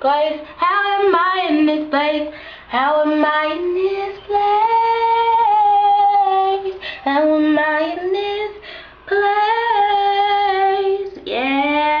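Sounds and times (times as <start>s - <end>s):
girl singing gospel-style: 0.0s - 12.0s.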